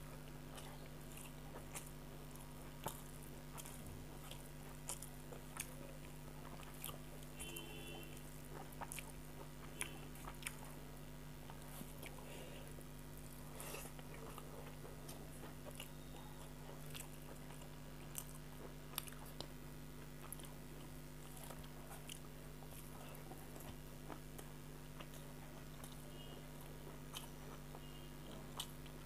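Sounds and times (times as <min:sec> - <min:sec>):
chewing with small crunches: 0:00.0 - 0:29.0
steady low hum: 0:00.0 - 0:29.0.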